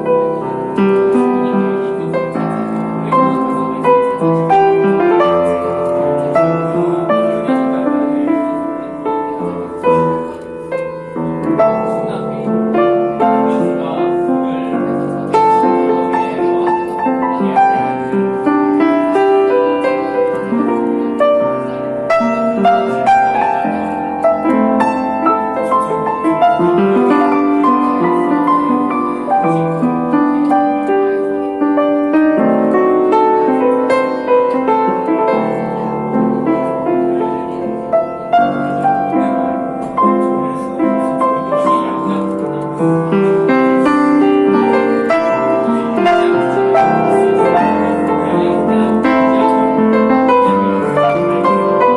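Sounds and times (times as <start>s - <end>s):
piano melody over chords: 0.0s - 51.9s.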